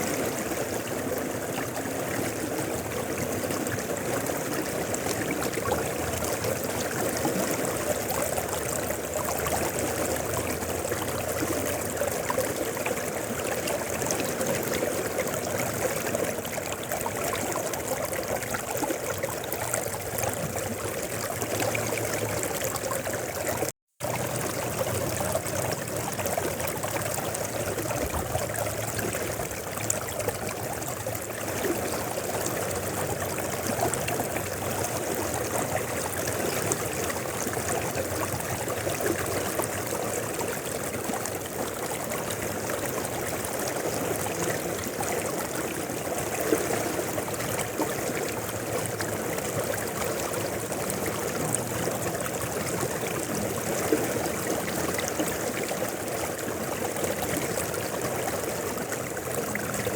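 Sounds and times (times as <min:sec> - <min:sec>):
mountain river flowing: 0:00.0 - 0:59.9.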